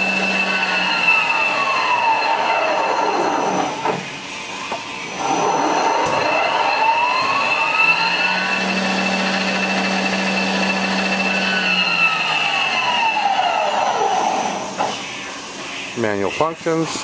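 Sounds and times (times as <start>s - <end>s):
lathe spindle whine: 0.0s - 16.7s
high-pitched machine whine: 0.0s - 17.0s.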